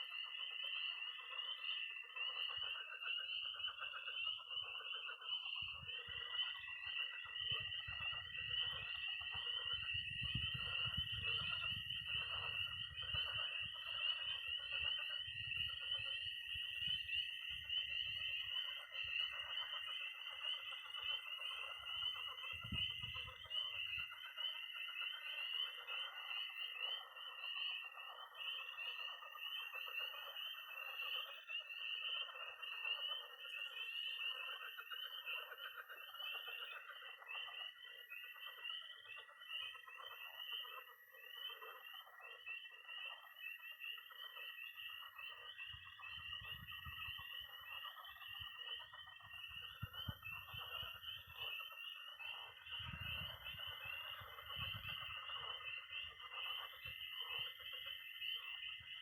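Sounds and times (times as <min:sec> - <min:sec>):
frogs croaking: 0:00.0 - 0:59.0
high-pitched toad trill: 0:00.0 - 0:59.0
spring peepers peeping: 0:00.0 - 0:59.0.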